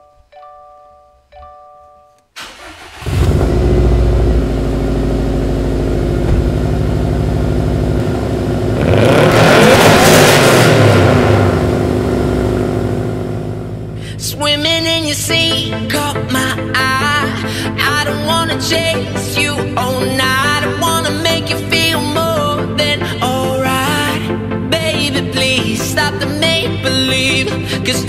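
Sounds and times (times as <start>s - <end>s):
car engine starting and idling: 2.4s - 24.9s.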